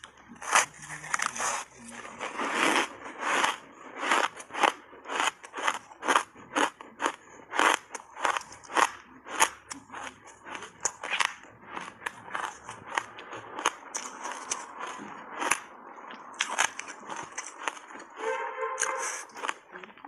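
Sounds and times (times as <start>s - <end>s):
ice crunching while chewed: 0.0s - 20.0s.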